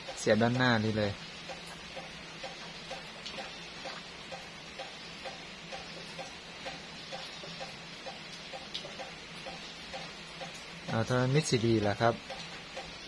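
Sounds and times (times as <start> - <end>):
low electrical hum: 0.0 - 13.0
soft even ticking: 0.0 - 13.0.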